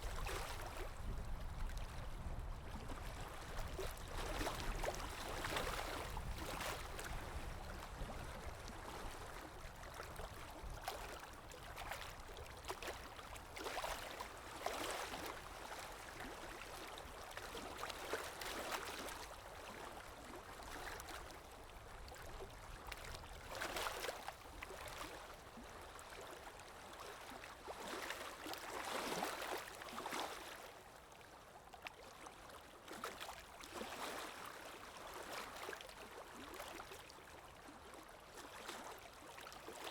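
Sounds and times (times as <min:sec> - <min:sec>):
river water lapping: 0:00.0 - 0:39.9.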